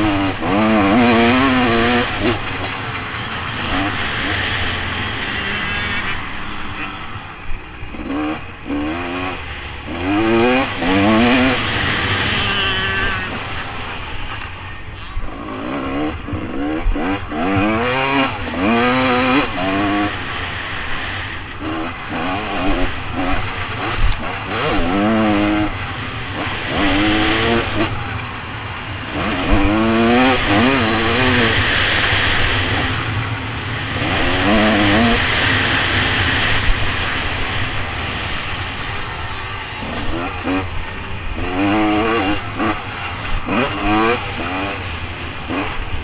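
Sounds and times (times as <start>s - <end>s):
motocross bike engine revving: 0.0s - 46.0s
rushing noise: 0.0s - 46.0s.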